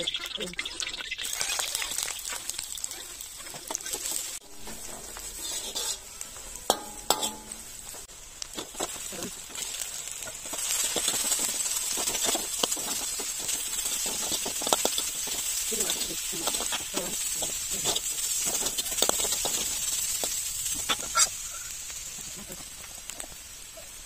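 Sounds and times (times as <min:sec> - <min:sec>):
food sizzling in oil: 0:00.0 - 0:24.0
spoon stirring and scraping wok: 0:01.0 - 0:23.5.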